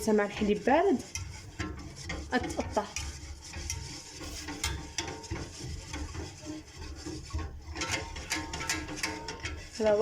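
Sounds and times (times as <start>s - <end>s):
utensil scraping a pan: 0.0s - 10.0s.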